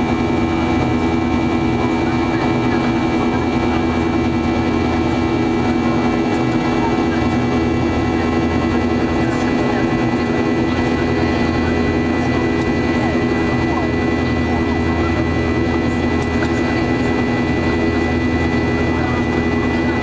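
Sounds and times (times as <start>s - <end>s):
high engine whine: 0.0s - 20.0s
jet engine drone in cabin: 0.0s - 20.0s.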